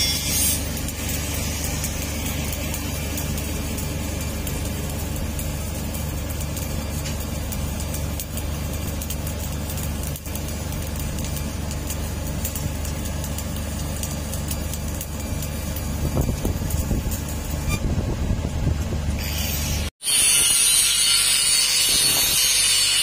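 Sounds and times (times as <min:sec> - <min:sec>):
arc welding crackling and hissing: 0:00.0 - 0:23.0.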